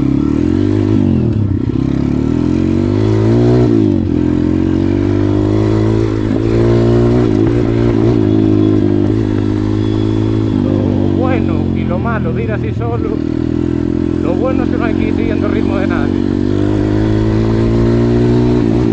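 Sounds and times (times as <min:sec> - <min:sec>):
motorbike engine revving: 0:00.0 - 0:18.9.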